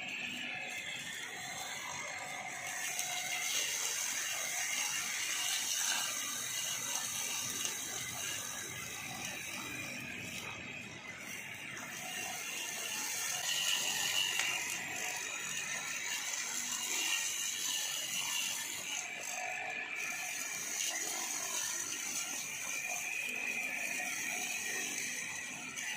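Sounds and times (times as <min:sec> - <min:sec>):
grass-cutting machine rattling: 0:00.0 - 0:25.9.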